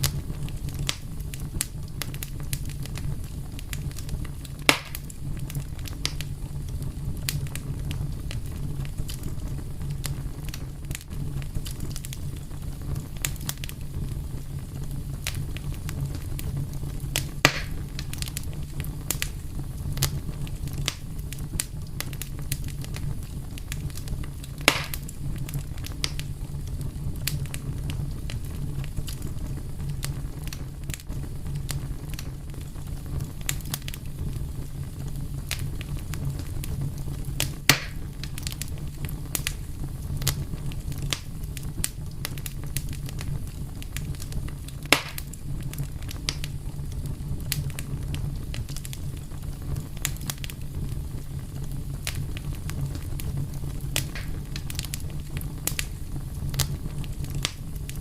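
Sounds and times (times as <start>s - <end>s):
fire crackling and snapping: 0.0s - 58.0s.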